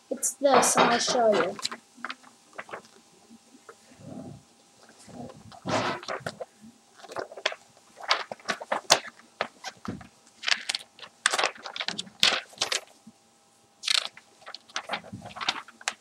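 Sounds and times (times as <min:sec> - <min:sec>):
magazine pages rustling: 0:00.4 - 0:03.0, 0:04.8 - 0:13.0, 0:13.8 - 0:16.0.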